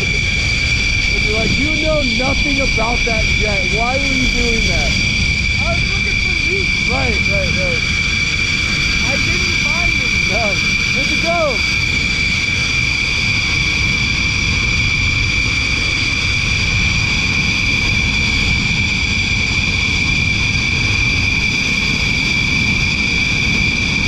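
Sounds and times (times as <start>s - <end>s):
jet engines whining and rumbling: 0.0s - 24.0s.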